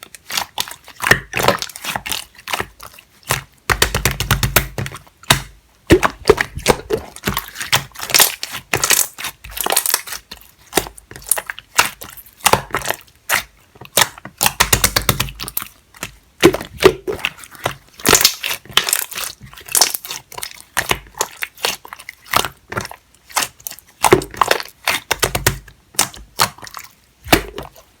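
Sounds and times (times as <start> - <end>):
slime squishing with sticky pops: 0.0 - 28.0.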